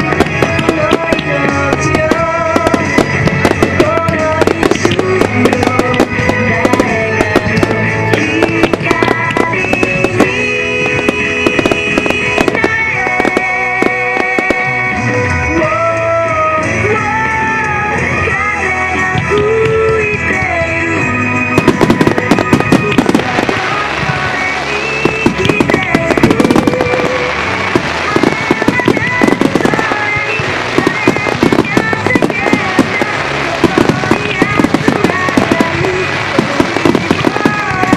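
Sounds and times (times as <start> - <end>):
melodic music: 0.0 - 16.3, 21.0 - 37.9
firework bursts and crackling: 0.0 - 37.9.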